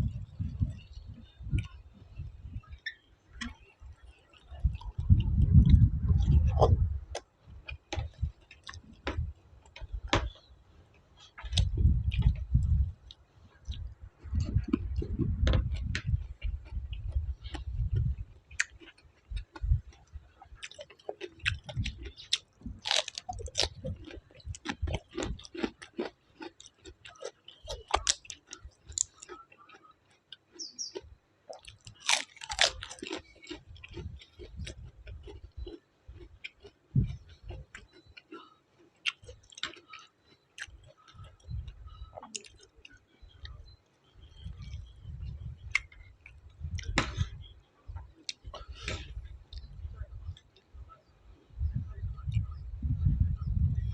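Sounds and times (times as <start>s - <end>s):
person chewing and crunching food: 0.0s - 50.7s.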